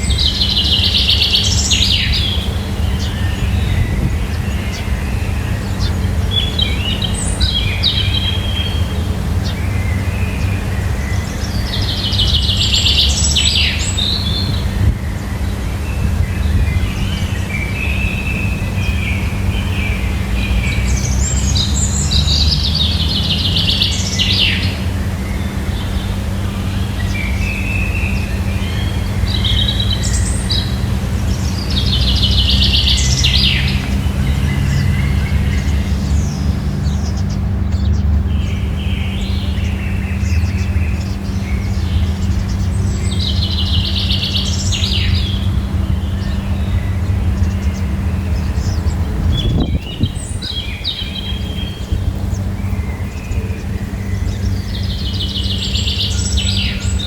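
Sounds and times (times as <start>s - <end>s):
birds chirping: 0.0s - 57.0s
steady low rumble: 0.0s - 57.0s.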